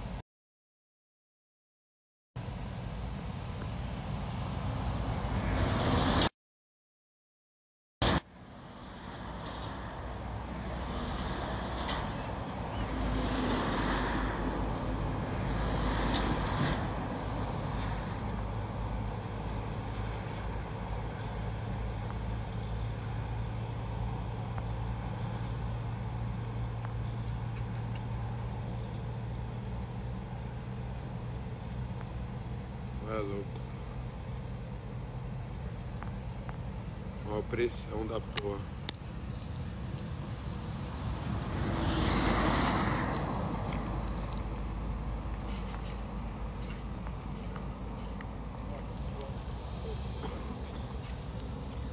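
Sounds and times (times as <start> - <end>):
low engine hum: 2.4 - 6.3, 8.0 - 51.9
vehicle passing: 3.8 - 6.3, 8.0 - 51.9.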